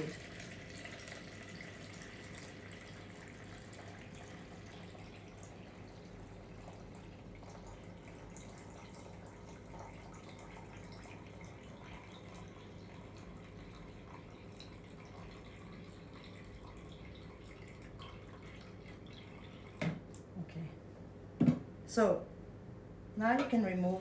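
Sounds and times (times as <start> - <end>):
liquid trickling into jug: 0.0 - 19.8
low steady hum: 0.0 - 24.0.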